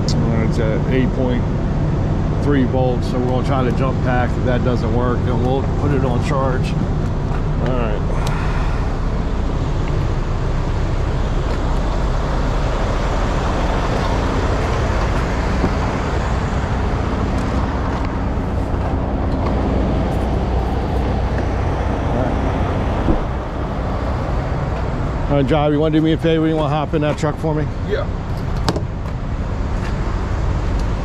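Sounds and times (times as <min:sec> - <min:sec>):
truck engines idling: 0:00.0 - 0:31.0.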